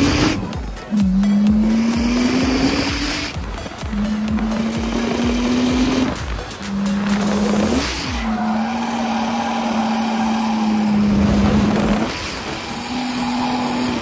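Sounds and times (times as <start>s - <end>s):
car engine at high revs: 0.0s - 14.0s
tyres screeching: 0.0s - 14.0s.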